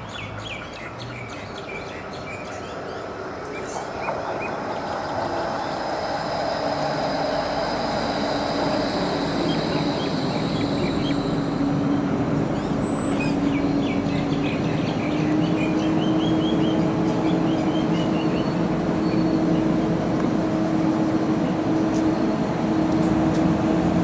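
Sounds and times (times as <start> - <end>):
birds chirping: 0.1 - 24.0
wheel-on-rail noise: 1.6 - 24.0
tram motor whine: 1.8 - 24.0.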